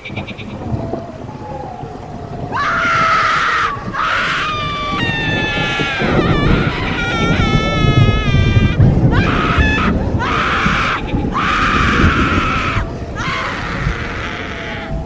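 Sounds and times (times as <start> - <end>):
low rumbling background: 0.0 - 15.0
wavering shriek: 1.1 - 15.0
long harsh screams: 2.5 - 15.0.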